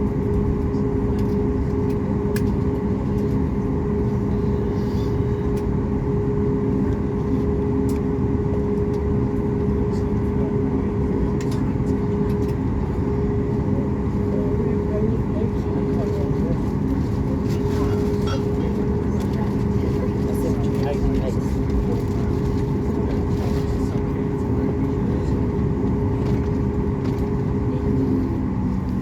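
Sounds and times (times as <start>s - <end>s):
aircraft cabin hum: 0.0s - 29.0s.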